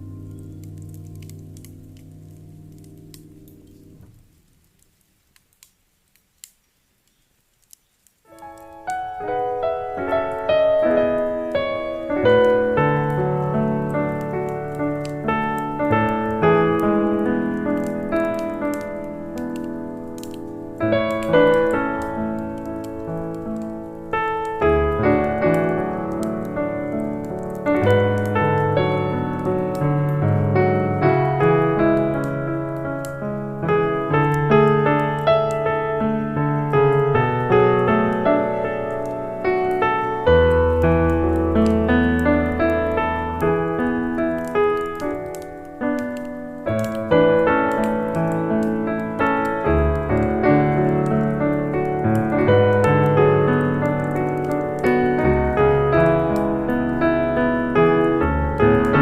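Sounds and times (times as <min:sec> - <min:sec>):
gentle piano music: 0:00.0 - 0:05.0, 0:08.2 - 0:59.0
fireplace crackling: 0:00.0 - 0:59.0.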